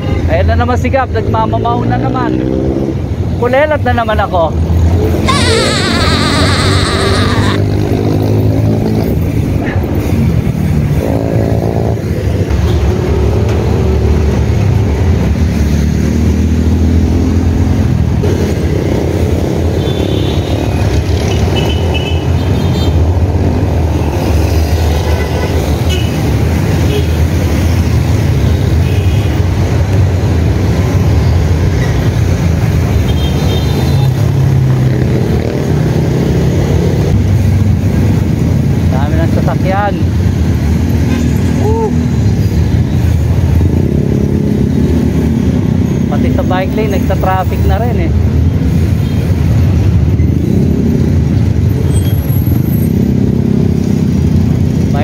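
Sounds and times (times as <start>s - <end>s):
motorcycle and car engines: 0.0s - 55.0s
traffic rumble: 0.0s - 55.0s.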